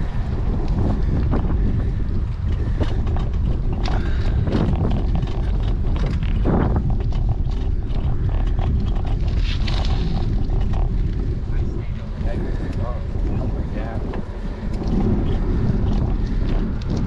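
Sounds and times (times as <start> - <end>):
bike clicks and knocks: 0.0 - 17.0
wind buffeting microphone: 0.0 - 17.0.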